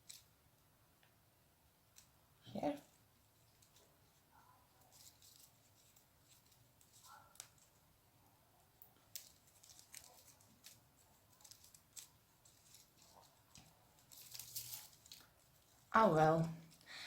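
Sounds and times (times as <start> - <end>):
paper yarn rustling with crochet hook: 0.0 - 0.6, 1.7 - 16.9.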